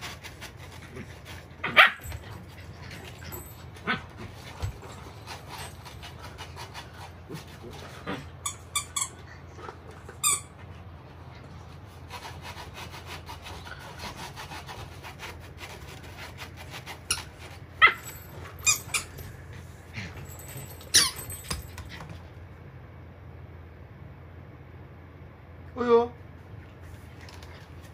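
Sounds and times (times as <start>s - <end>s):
puppy paws scratching fabric: 0.0s - 22.3s, 26.7s - 27.9s.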